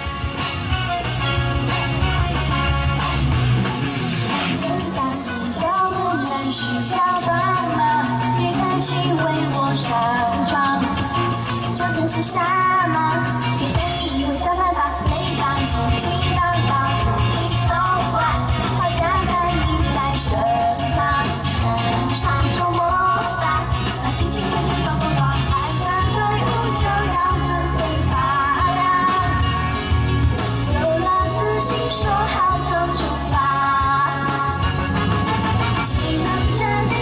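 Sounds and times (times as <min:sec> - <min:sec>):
amplified pop backing music: 0:00.0 - 0:37.0
woman singing into a microphone: 0:04.4 - 0:30.0, 0:30.6 - 0:35.0, 0:35.8 - 0:37.0.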